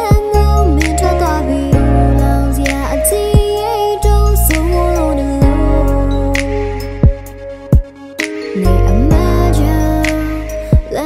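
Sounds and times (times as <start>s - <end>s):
pop song with drums: 0.0s - 11.0s.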